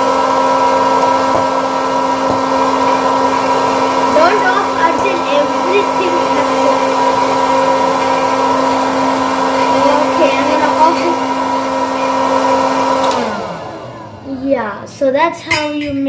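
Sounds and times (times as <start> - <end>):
popcorn machine fan humming: 0.0 - 15.3.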